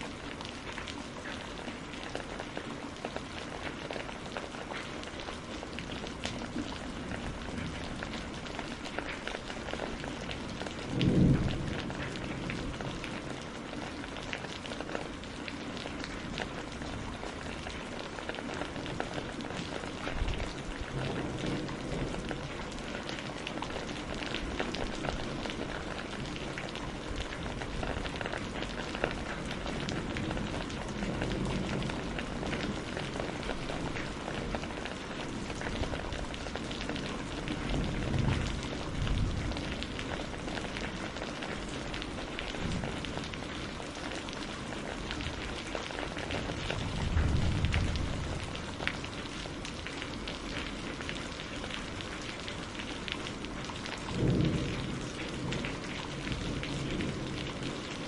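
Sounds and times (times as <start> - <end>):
rain on a greenhouse roof: 0.0 - 58.0.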